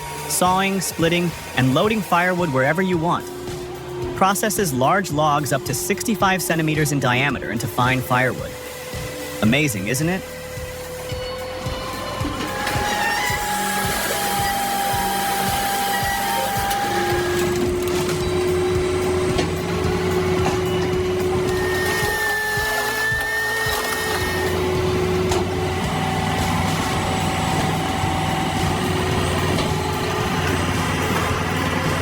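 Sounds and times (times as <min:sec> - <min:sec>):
firewood processor whining: 0:00.0 - 0:32.0.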